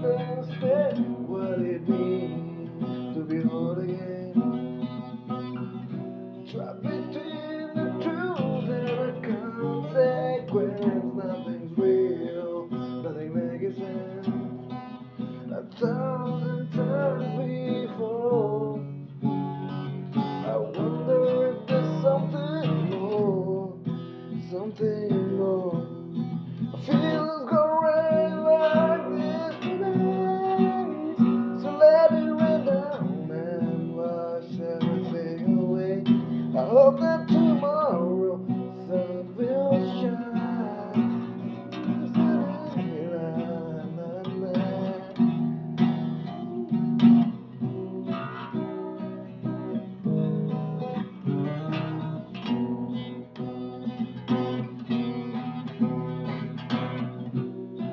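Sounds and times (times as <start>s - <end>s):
person singing: 0.0s - 19.2s, 20.1s - 56.8s
acoustic guitar strumming: 0.0s - 57.9s.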